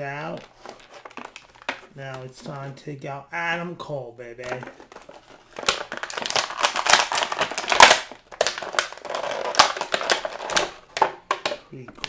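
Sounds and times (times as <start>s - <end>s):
plastic packaging crackling: 0.0s - 2.9s, 4.3s - 12.0s.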